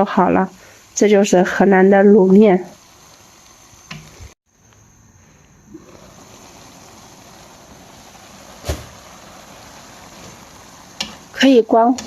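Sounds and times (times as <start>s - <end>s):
food simmering in a wok: 0.0s - 12.0s.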